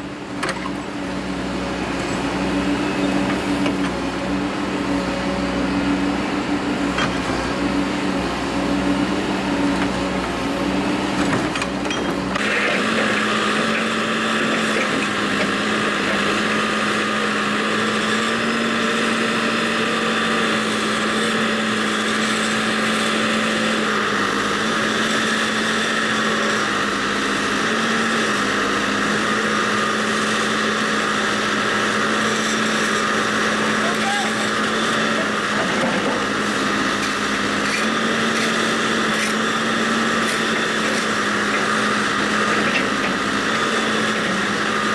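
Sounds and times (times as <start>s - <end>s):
backhoe engine running: 0.0s - 44.9s.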